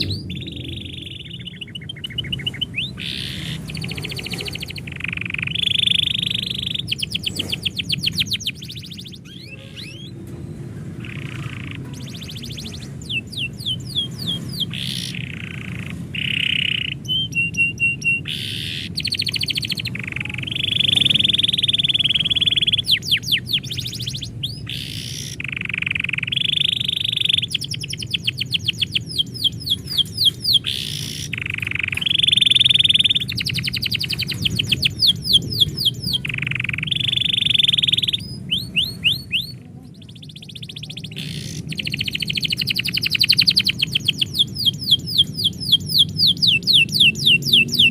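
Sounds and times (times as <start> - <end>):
canary singing: 0.0 - 47.9.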